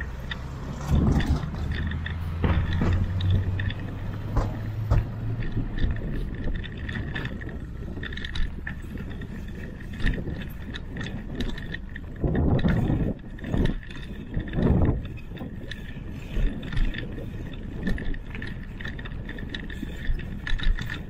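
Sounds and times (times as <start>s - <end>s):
bicycle knocks and rattles: 0.0s - 21.0s
bicycle tyre rumble: 0.0s - 21.0s
traffic passing: 0.0s - 21.0s.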